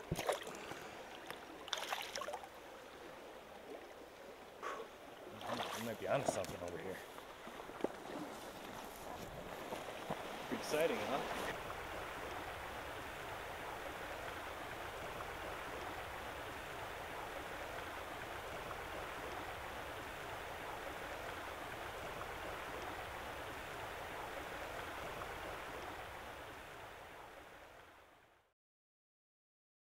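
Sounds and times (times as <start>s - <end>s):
stream flowing: 0.0s - 28.4s.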